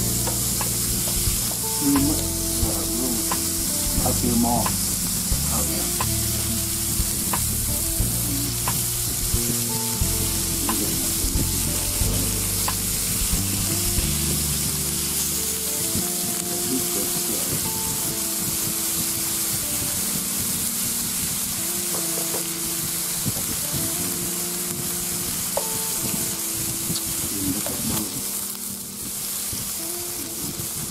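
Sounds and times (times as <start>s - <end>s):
meat sizzling on a grill: 0.0s - 30.9s.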